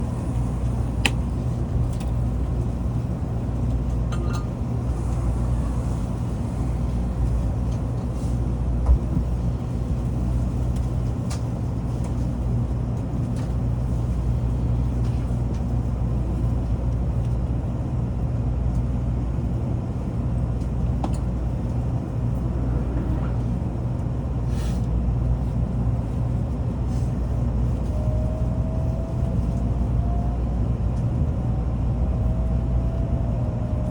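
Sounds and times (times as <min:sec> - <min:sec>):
train running rumble: 0:00.0 - 0:33.9.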